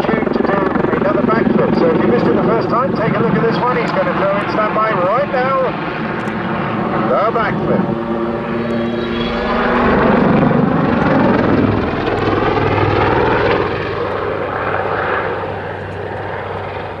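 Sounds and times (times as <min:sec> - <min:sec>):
helicopter rotor and engines: 0:00.0 - 0:17.0.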